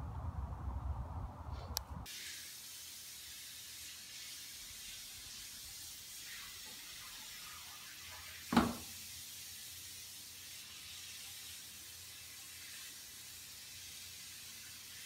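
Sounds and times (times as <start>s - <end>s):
faint steady hiss: 1.7s - 15.0s.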